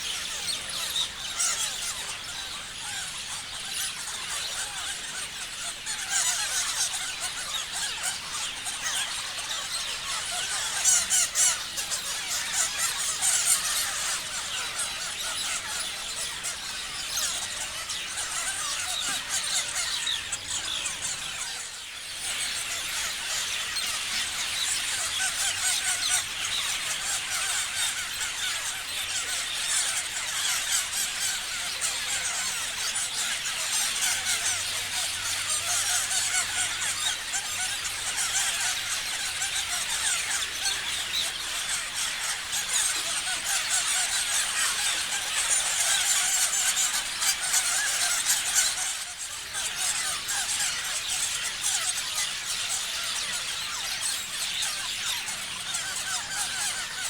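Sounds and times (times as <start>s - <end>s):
parrots chirping and screeching: 0.0s - 57.0s.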